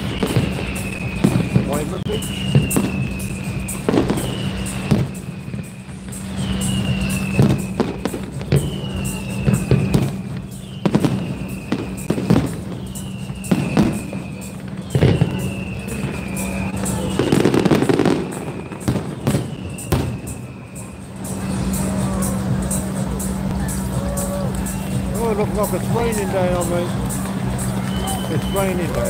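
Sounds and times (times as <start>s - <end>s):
background music: 0.0s - 29.0s
fireworks bangs and crackles: 0.0s - 29.0s.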